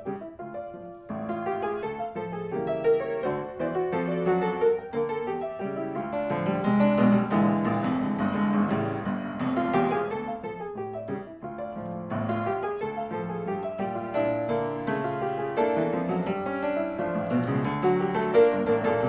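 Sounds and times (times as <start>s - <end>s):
piano melody over chords: 0.0s - 19.0s.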